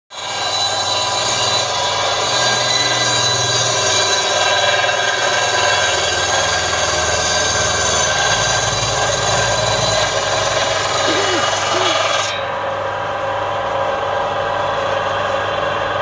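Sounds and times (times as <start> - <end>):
circular saw cutting log: 0.1 - 13.2.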